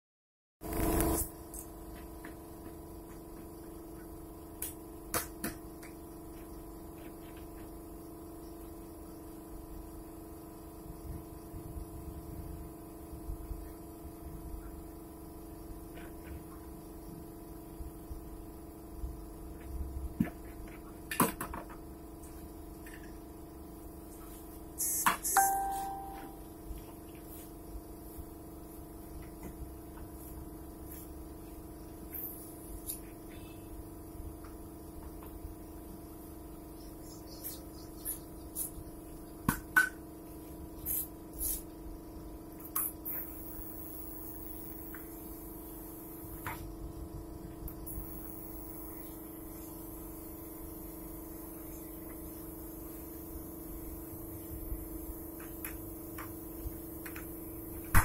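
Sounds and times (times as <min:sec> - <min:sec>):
air compressor humming: 0:00.6 - 0:58.0.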